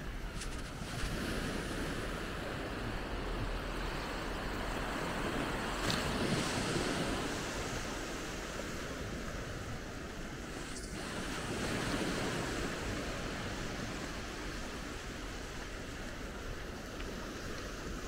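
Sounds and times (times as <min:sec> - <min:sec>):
small waves breaking on shore: 0:00.0 - 0:18.0.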